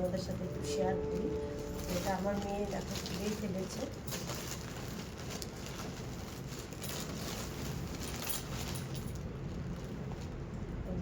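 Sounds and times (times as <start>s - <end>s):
packaging and cloth rustling: 0.1s - 10.7s.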